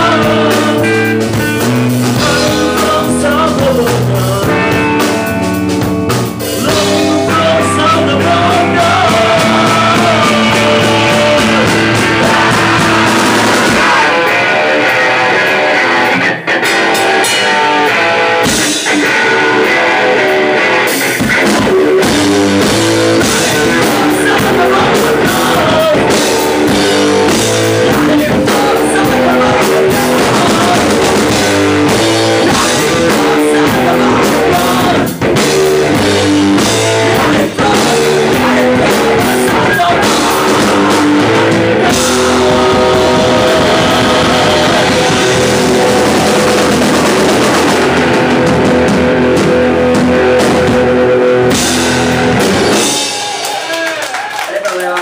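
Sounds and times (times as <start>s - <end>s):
bass guitar: 0.0s - 54.4s
drum kit: 0.0s - 55.0s
electric guitar: 0.0s - 55.0s.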